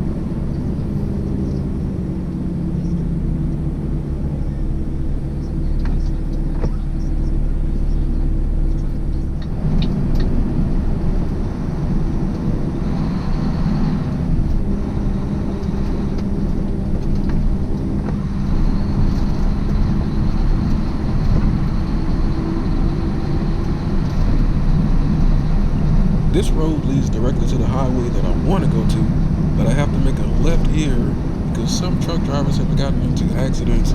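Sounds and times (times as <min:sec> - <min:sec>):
truck diesel engine and tyre drone: 0:00.0 - 0:33.9.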